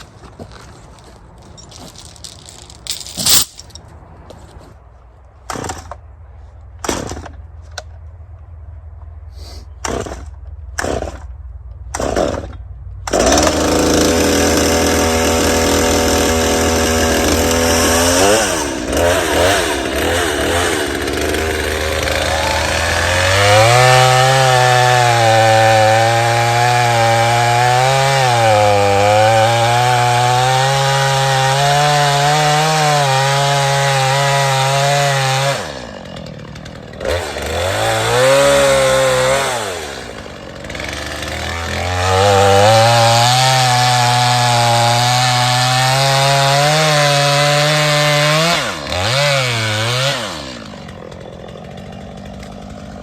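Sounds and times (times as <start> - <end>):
chainsaw running and revving: 9.8 - 11.3, 12.0 - 53.0.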